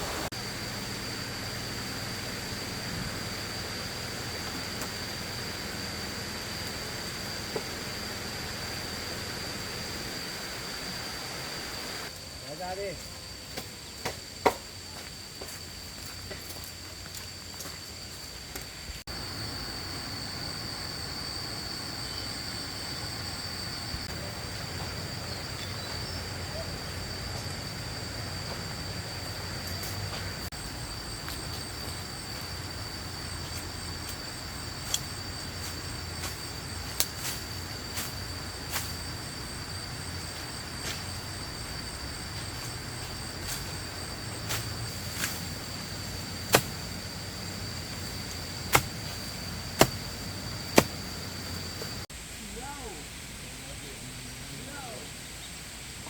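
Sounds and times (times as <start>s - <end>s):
high-pitched insect chirr: 0.0s - 56.0s.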